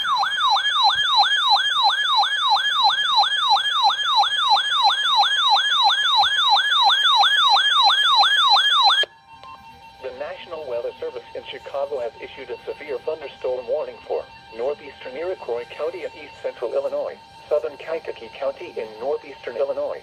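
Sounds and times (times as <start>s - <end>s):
electronic siren whooping: 0.0s - 20.0s.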